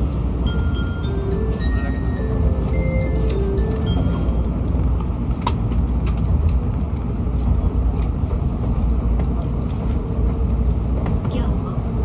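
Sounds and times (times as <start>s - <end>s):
train rumble inside passenger car: 0.0s - 12.0s.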